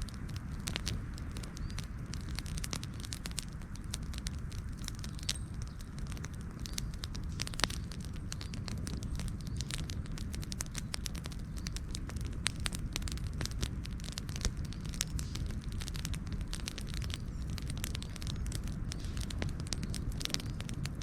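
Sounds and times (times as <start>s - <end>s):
campfire crackling and popping: 0.0s - 21.0s
low rush of flame: 0.0s - 21.0s.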